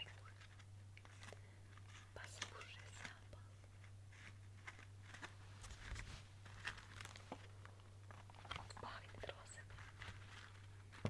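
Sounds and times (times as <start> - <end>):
soft clicks and crackles: 0.0 - 11.0.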